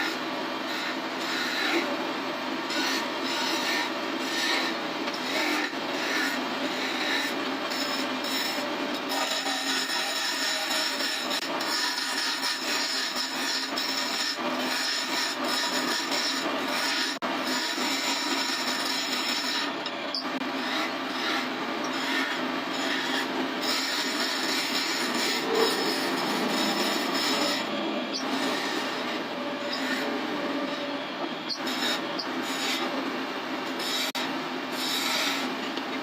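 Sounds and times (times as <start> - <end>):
tool scraping wood on lathe: 0.0 - 2.0, 2.7 - 30.9, 31.5 - 32.9, 33.7 - 35.5
lathe whine: 0.0 - 36.0.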